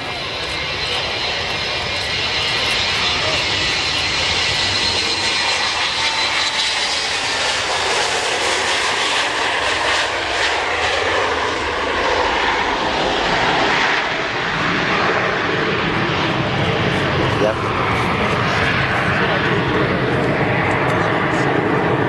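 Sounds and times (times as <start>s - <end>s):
jet airliner engines roaring: 0.0s - 22.0s.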